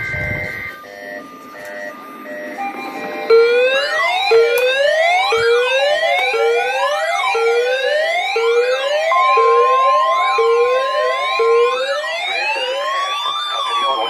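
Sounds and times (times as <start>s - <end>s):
electronic sirens sweeping: 0.0s - 14.0s
steady high alert tone: 0.0s - 14.0s.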